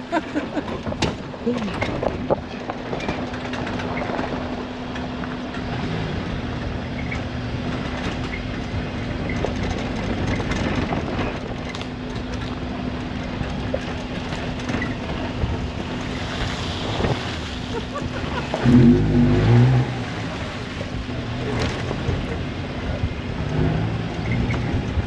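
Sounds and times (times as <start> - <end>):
car engine hum: 0.0 - 25.0
vehicle rattling and knocking: 0.0 - 25.0.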